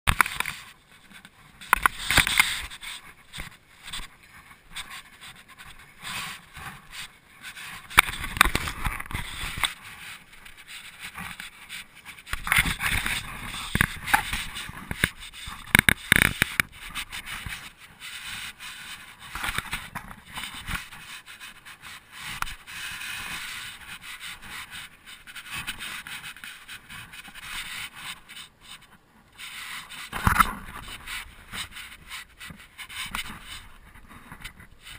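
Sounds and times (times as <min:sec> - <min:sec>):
scraping on sandstone: 0:00.1 - 0:34.9.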